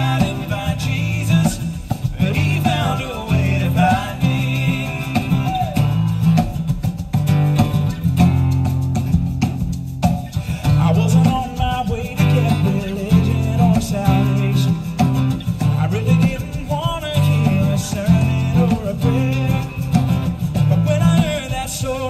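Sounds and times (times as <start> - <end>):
lead vocal singing: 0.0 - 6.6, 10.4 - 22.0
acoustic guitars strumming: 0.0 - 22.0.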